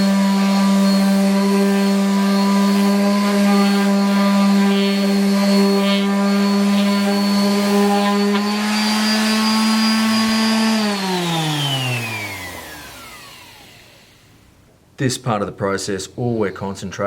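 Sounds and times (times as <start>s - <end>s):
orbit sander running: 0.0s - 14.5s.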